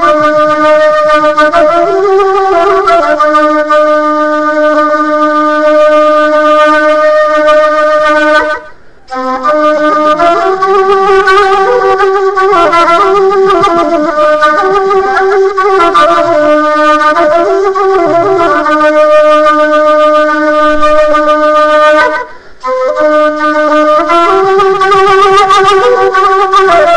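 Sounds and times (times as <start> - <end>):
reed wind instrument music: 0.0 - 26.9.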